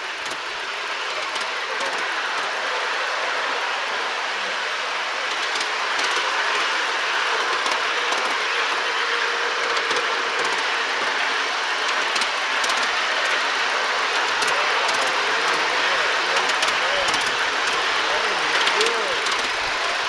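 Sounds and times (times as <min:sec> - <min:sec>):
miniature train running on track: 0:00.0 - 0:20.0.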